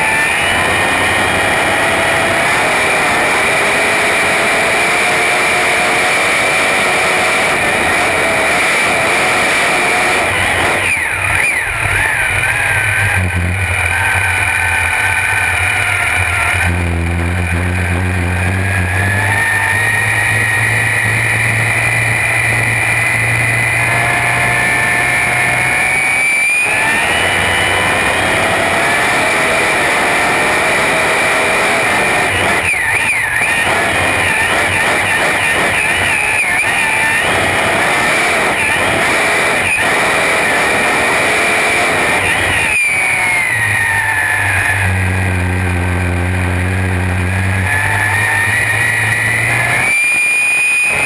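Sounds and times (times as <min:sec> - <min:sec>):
boat engine whining: 0:00.0 - 0:51.0.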